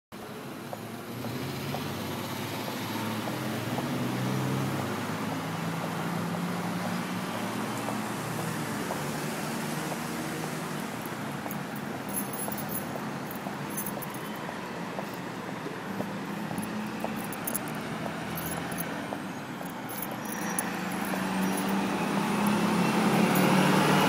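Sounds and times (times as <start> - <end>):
city street traffic: 0.1 - 24.0
vehicle engine hum: 0.2 - 24.0.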